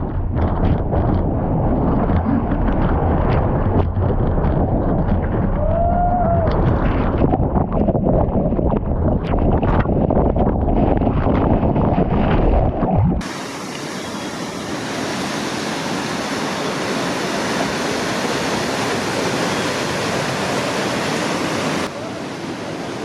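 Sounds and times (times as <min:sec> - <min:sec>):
surf breaking: 0:00.0 - 0:23.0.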